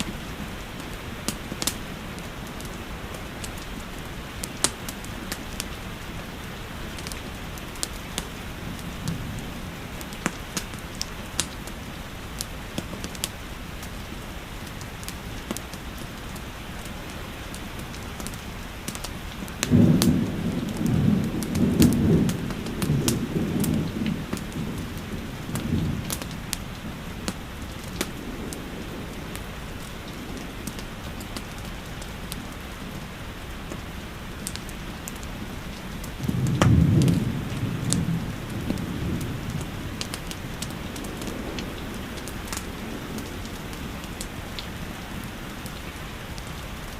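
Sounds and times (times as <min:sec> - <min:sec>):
thunder rumbling: 0:00.0 - 0:13.2, 0:17.6 - 0:46.9
fireplace crackling: 0:00.0 - 0:46.9
steady rain: 0:00.0 - 0:46.9.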